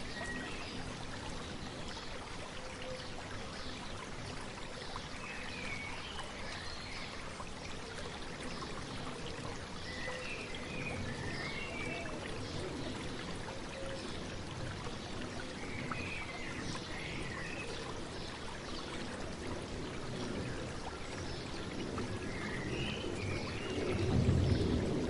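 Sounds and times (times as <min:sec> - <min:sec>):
stream babbling: 0:00.0 - 0:25.0.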